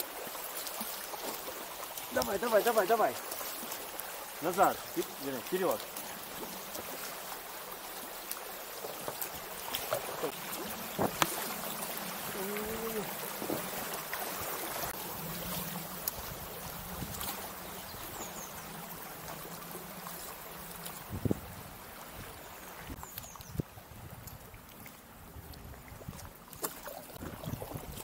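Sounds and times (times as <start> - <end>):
river current rushing: 0.0 - 23.0
paddle strokes in water: 0.0 - 28.0.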